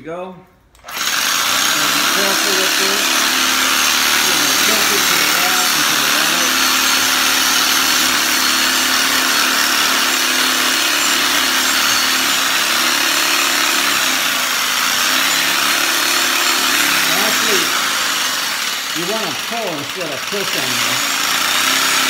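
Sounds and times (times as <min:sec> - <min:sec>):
reciprocating saw grinding grout: 0:00.9 - 0:22.0.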